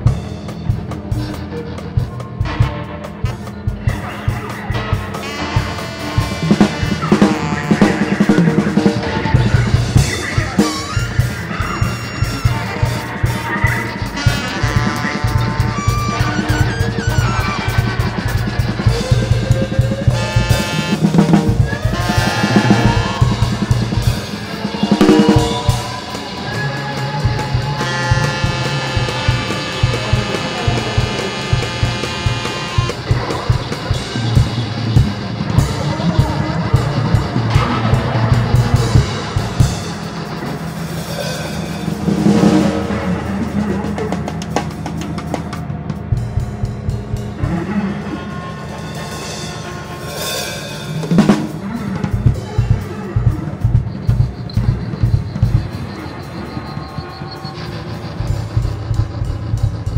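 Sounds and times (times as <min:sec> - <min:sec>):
drum kit playing fast: 0:00.0 - 0:59.9
low electric bass drone: 0:00.0 - 0:59.9
sustained electric guitar tones: 0:00.0 - 0:59.9.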